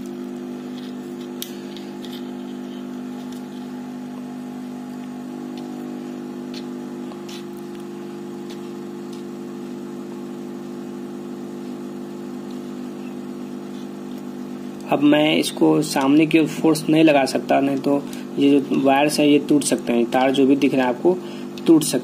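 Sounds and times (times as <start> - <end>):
hot air gun fan hum: 0.0 - 22.0.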